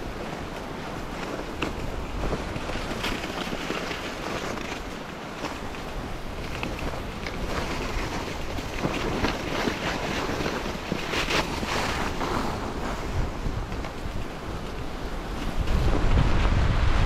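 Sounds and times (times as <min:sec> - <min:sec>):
skis scraping on snow: 0:00.0 - 0:17.0
wind rumbling on microphone: 0:00.0 - 0:17.0.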